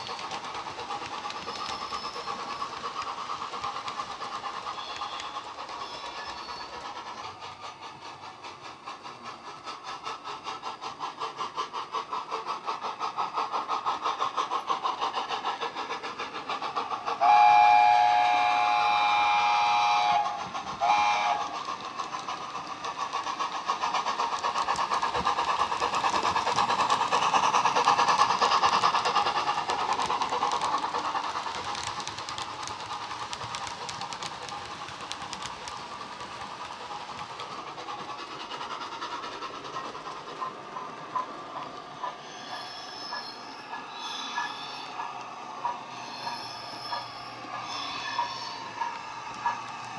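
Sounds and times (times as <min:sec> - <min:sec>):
steam locomotive chuffing: 0:00.0 - 0:49.9.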